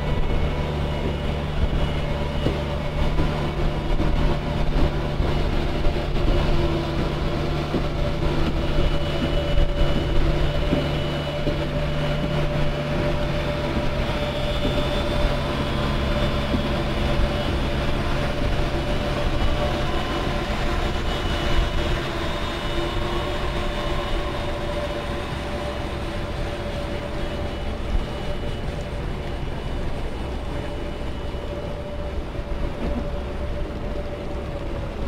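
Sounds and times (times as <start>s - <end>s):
tracked vehicle engine drone: 0.0s - 35.0s
tread running noise: 0.0s - 35.0s
whining tones: 0.0s - 35.0s.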